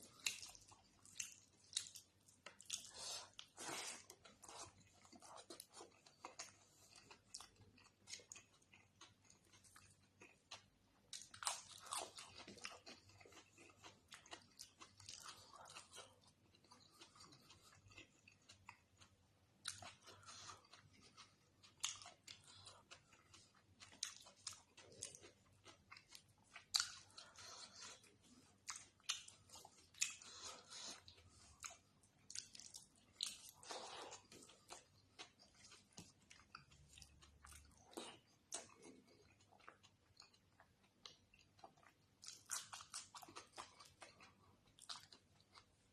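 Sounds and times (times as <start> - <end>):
person chewing: 0.0 - 45.9.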